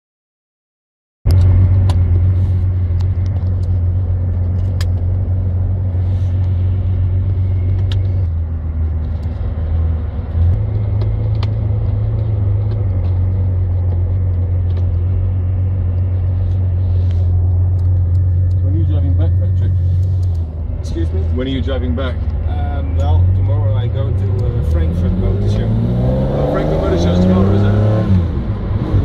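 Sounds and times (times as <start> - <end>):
car engine at low revs: 1.3 - 29.0.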